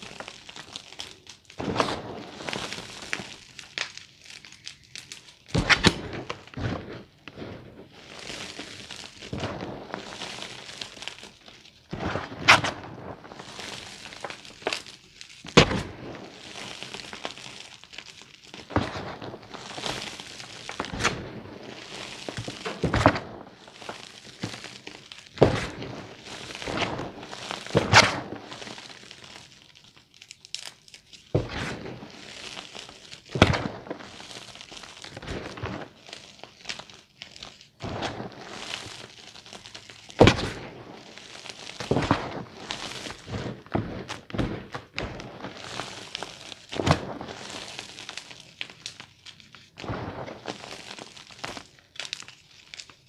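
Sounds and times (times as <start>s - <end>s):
powder sifting hiss: 0.0s - 52.8s
chalk crunching: 0.0s - 53.0s.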